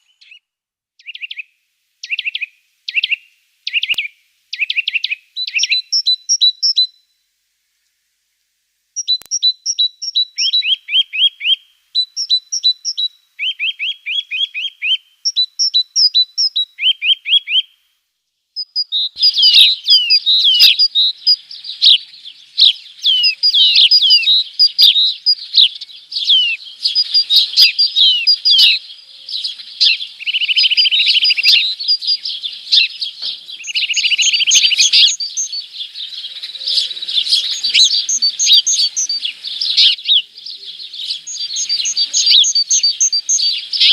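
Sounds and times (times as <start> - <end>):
chorus of birds chirping: 0.0 - 0.4, 1.0 - 7.0, 9.0 - 17.8, 18.6 - 43.9
songbird singing: 0.0 - 7.2, 9.0 - 43.9.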